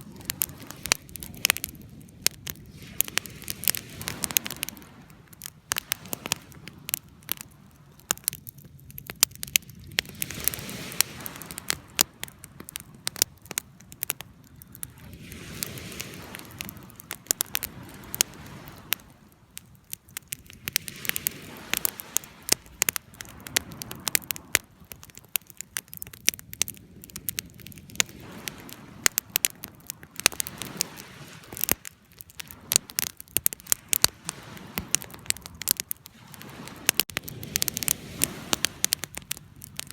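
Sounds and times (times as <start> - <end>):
fire crackling and popping: 0.0 - 39.9
soft fire hiss: 0.0 - 39.9.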